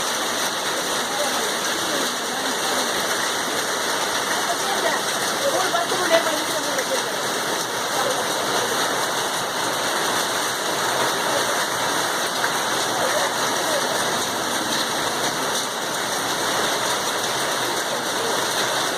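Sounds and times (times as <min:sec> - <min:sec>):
rain and hail pelting: 0:00.0 - 0:18.9.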